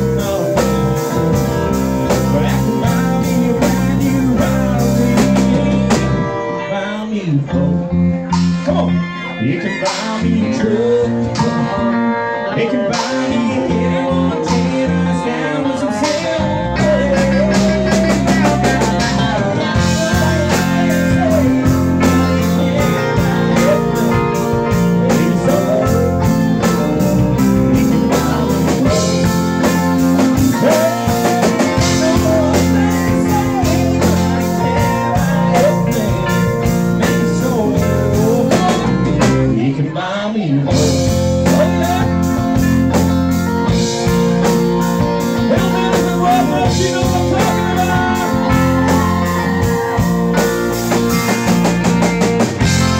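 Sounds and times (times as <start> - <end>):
live country band playing: 0.0 - 52.9
male lead vocal: 0.0 - 52.9.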